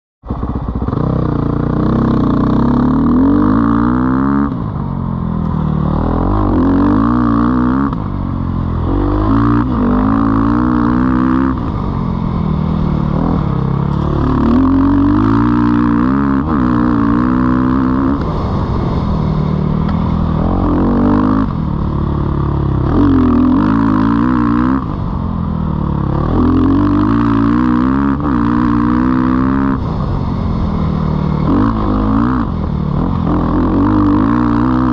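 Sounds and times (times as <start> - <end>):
dirt bike engine accelerating: 0.2 - 34.9.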